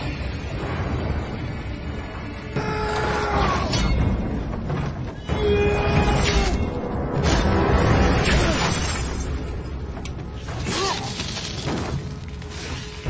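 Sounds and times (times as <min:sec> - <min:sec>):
dramatic music score: 0:00.0 - 0:13.0.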